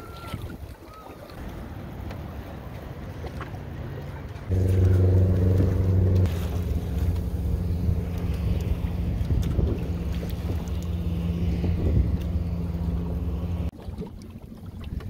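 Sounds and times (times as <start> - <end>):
ship engine hum: 0.0 - 15.0
water splashing on boat: 0.0 - 15.0
wind: 0.0 - 15.0.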